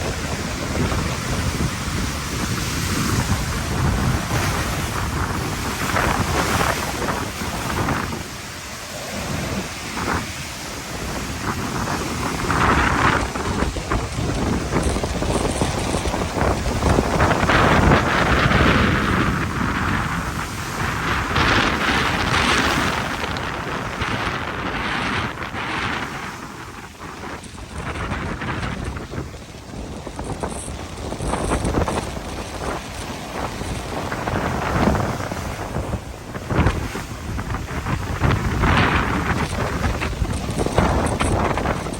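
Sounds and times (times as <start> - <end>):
strong wind buffeting microphone: 0.0 - 41.9.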